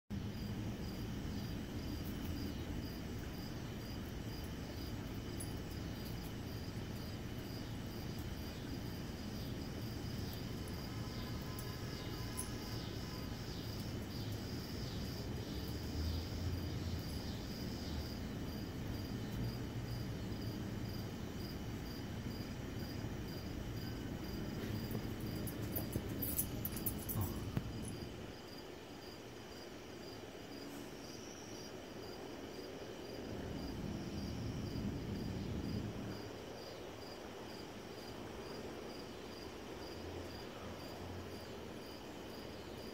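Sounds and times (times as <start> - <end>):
insects chirping: 0.1 - 42.9.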